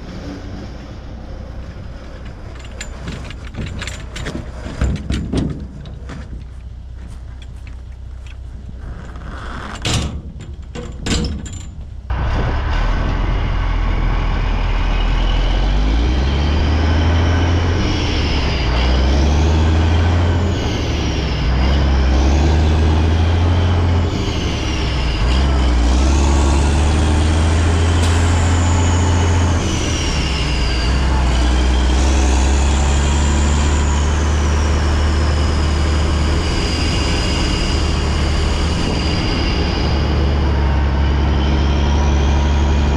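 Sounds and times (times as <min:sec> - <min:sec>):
truck engine shifting gears: 0:00.0 - 0:42.9.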